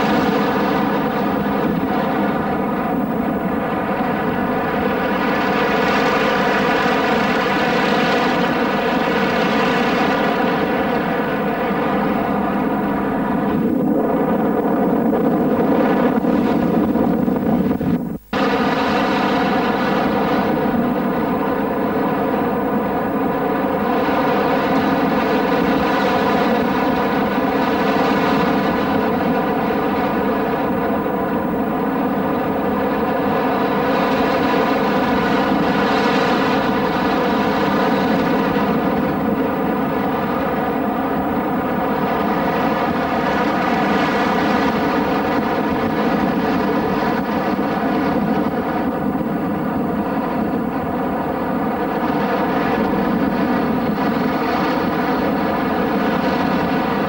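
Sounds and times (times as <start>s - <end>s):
plane engine and propeller: 0.0s - 57.0s.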